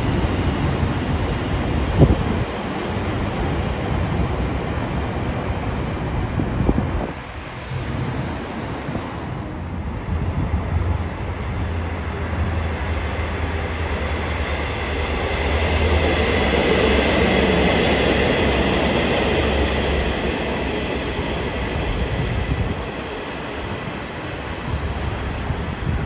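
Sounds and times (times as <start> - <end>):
thin high ringing: 0.0 - 26.0
train wheels rumbling on rail: 0.0 - 26.0.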